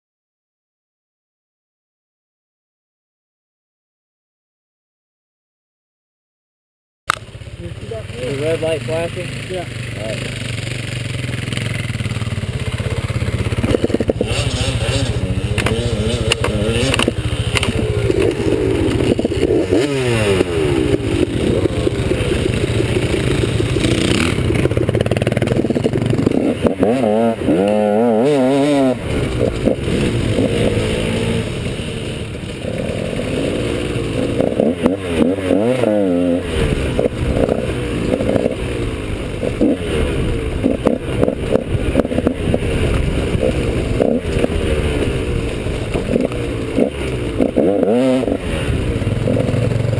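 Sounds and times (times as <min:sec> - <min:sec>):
dirt bike engine revving: 0:07.1 - 0:49.9.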